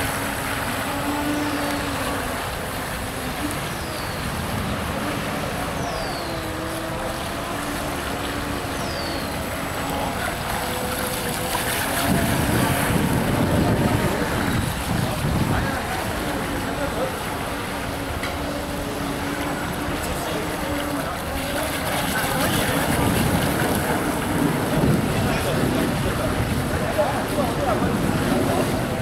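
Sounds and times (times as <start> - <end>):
electric model boat motor whining: 0.0 - 26.2
water wash and spray: 0.0 - 29.0.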